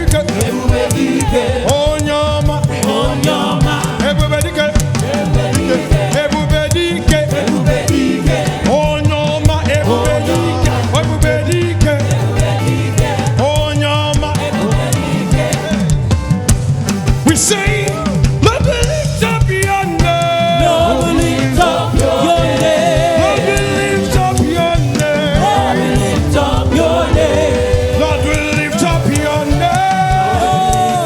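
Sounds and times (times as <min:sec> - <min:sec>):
band with drums: 0:00.0 - 0:31.0
choir singing gospel: 0:00.0 - 0:31.0.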